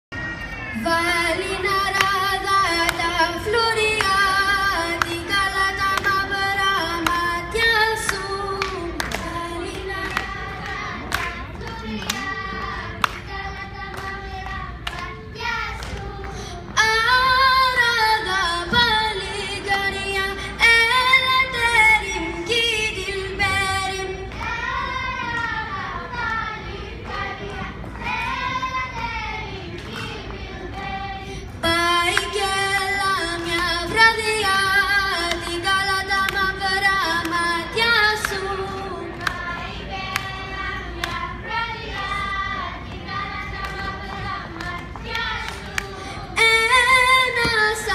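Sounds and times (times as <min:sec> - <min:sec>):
girl singing into a microphone: 0:00.2 - 0:30.2, 0:30.8 - 0:47.9.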